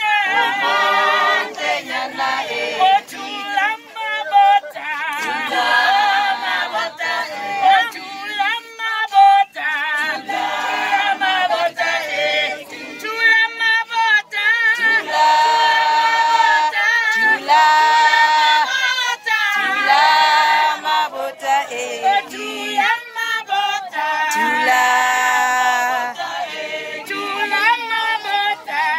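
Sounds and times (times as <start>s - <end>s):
group singing without instruments: 0.0s - 28.9s.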